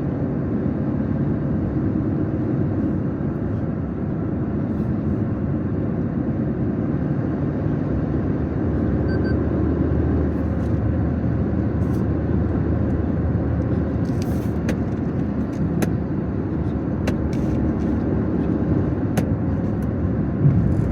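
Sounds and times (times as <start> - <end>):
car engine and road rumble: 0.0 - 20.9.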